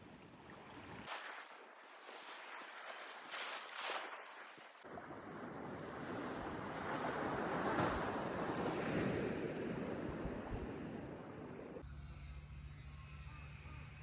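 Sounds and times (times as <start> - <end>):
sea surf: 0.0 - 11.8
wind: 0.0 - 14.0.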